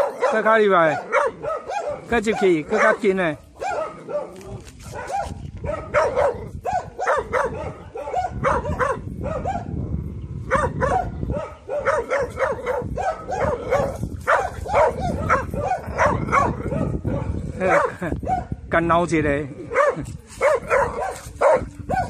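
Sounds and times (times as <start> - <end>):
dog barking rapidly: 0.0 - 9.8, 10.5 - 18.6, 19.7 - 22.0.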